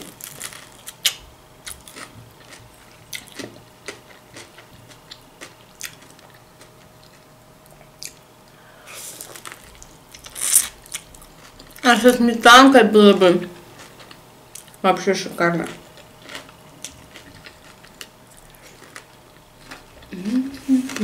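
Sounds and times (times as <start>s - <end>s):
person chewing food: 0.0s - 11.8s, 13.7s - 14.8s, 15.9s - 21.0s.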